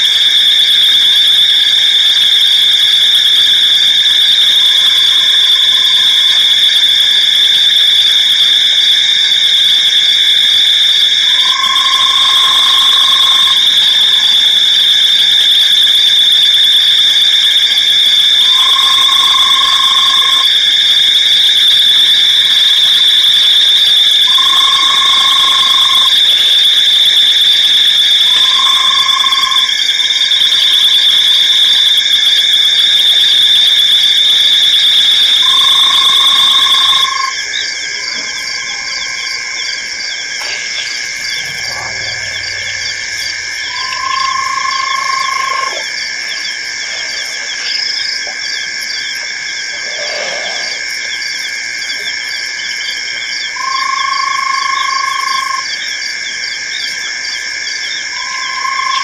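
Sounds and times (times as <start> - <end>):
insects shrilling: 1.8 - 59.0
frog calling: 3.3 - 8.4, 11.1 - 15.4, 17.7 - 59.0.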